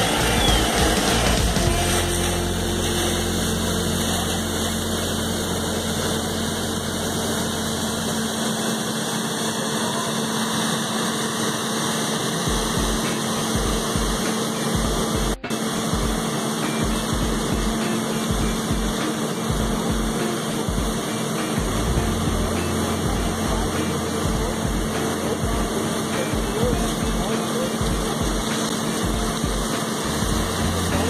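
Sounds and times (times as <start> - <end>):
fire hose spraying: 0.0 - 31.0
pump engine drone: 0.0 - 31.0.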